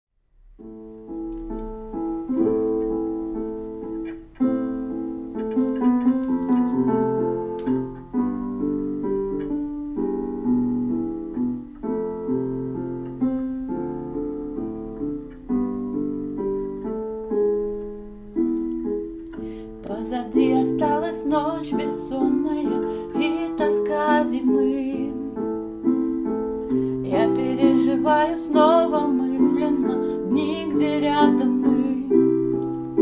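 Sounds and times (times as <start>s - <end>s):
piano chords: 0.3s - 33.0s.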